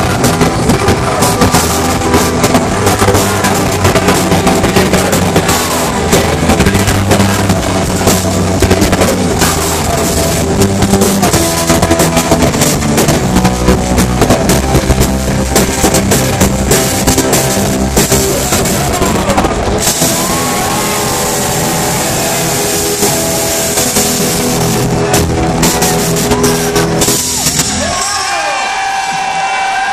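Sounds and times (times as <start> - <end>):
bass guitar: 0.0 - 29.9
distorted electric guitars: 0.0 - 29.9
drums: 0.0 - 29.9.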